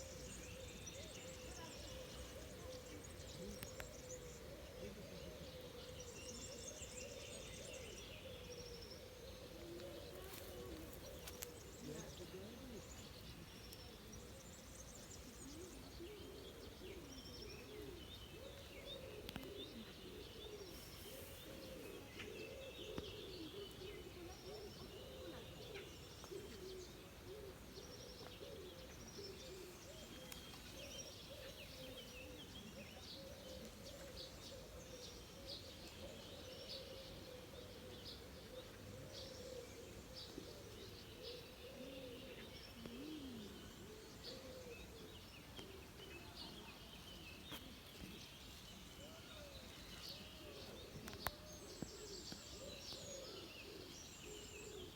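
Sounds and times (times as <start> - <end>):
birds chirping and twittering: 0.0 - 54.9.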